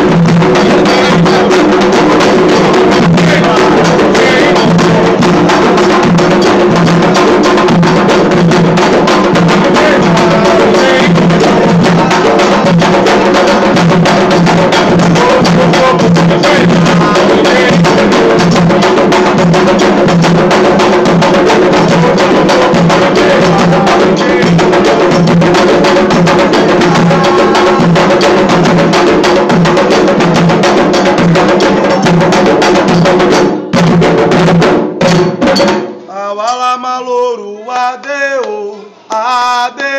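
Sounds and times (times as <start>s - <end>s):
sharp clicking percussion: 0.0s - 36.8s
hand drums: 0.0s - 37.4s.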